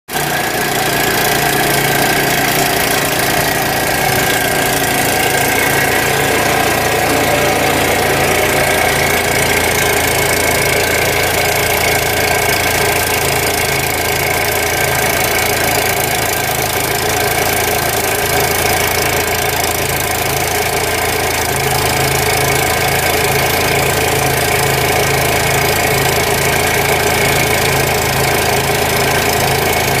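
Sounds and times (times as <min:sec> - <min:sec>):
gas engine idling: 0:00.1 - 0:30.0.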